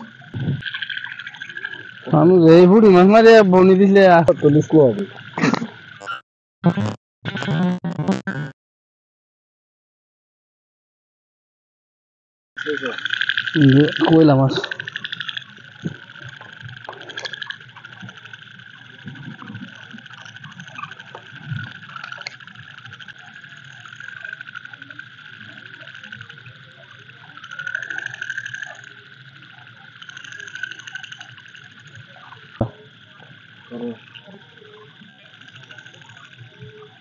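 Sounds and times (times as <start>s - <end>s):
frogs trilling chorus: 0.0s - 6.2s, 12.6s - 37.0s.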